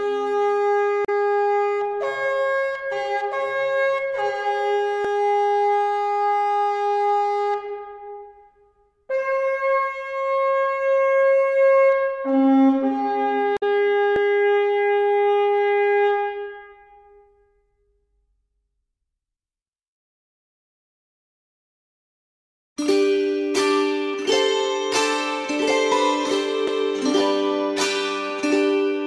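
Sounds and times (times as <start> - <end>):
reedy wind instrument notes: 0.0 - 17.4, 22.8 - 29.0.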